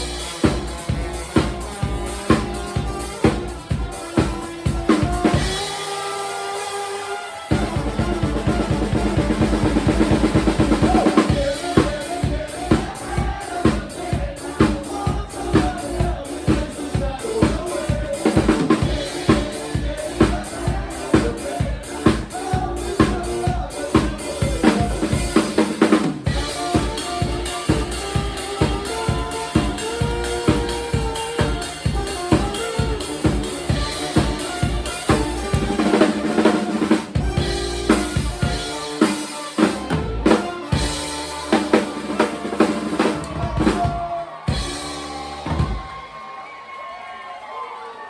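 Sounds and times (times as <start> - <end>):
drum kit beat: 0.0 - 46.2
live band playing: 0.0 - 46.4.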